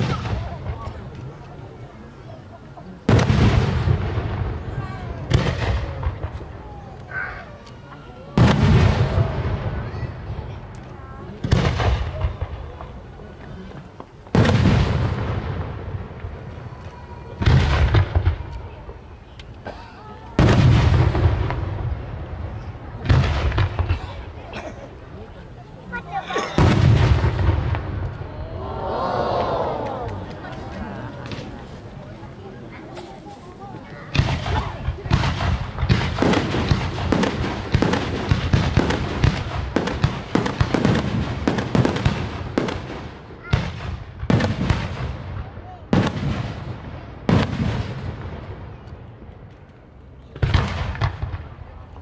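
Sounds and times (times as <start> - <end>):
firework shells booming: 3.0 - 7.2, 8.3 - 25.1, 26.4 - 28.3, 29.9 - 32.1, 34.1 - 49.3, 50.3 - 52.0.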